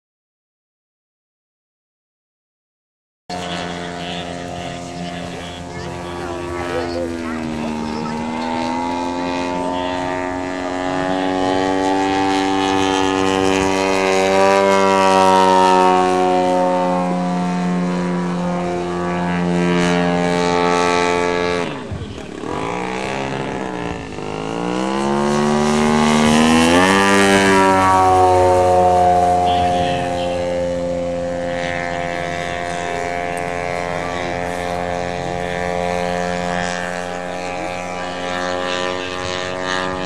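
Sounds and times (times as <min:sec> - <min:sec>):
model aircraft engine running: 0:03.3 - 0:40.0.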